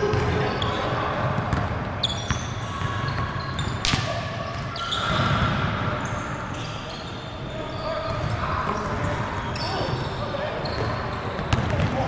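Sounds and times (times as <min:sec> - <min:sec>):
shoes squeaking on court: 0:00.0 - 0:12.0
voices in background: 0:00.0 - 0:12.0.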